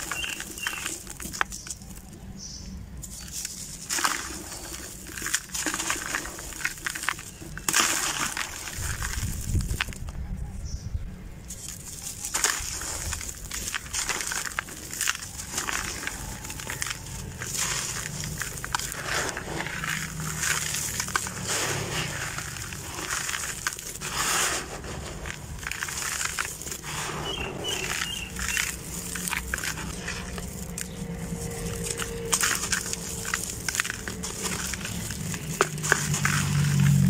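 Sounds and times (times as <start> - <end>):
grit pouring into bucket: 0.0 - 2.1, 3.0 - 10.0, 11.5 - 37.0
hands crushing dry block: 0.0 - 10.2, 11.5 - 37.0.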